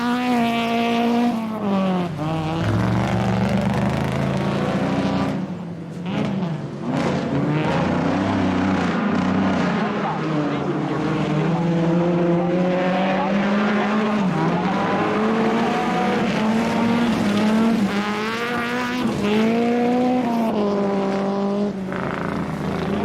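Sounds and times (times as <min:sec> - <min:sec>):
rally car engine accelerating: 0:00.0 - 0:23.0.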